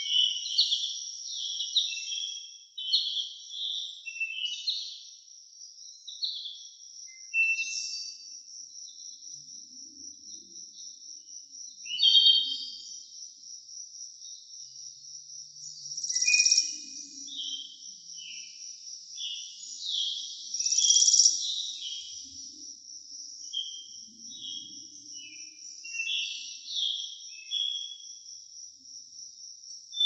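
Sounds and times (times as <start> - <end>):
forest birds singing: 0.0 - 30.0.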